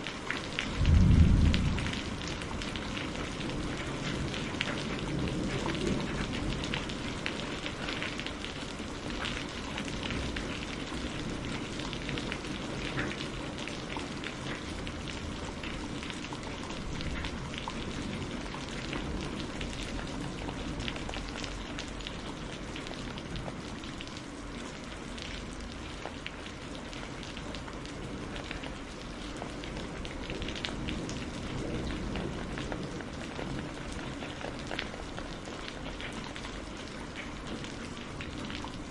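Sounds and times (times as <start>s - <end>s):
steady rain on a surface: 0.0s - 38.9s.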